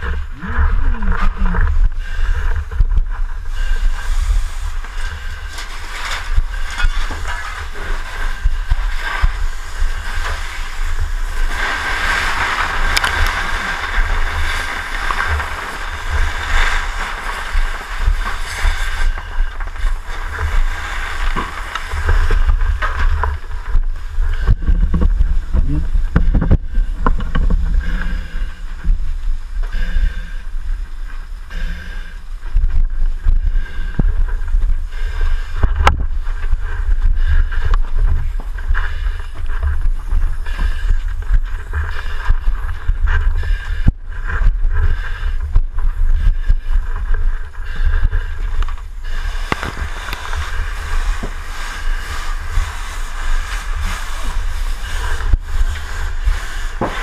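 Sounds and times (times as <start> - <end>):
muffled low rumble: 0.0 - 57.0.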